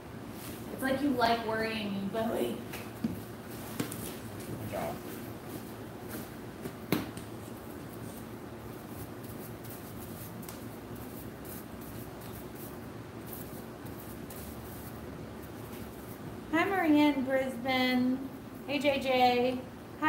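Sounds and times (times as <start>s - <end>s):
background room noise: 0.0s - 20.0s.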